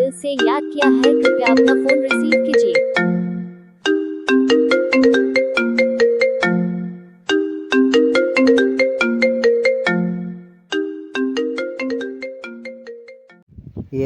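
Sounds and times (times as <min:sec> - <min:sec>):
phone ringtone melody: 0:00.0 - 0:13.4.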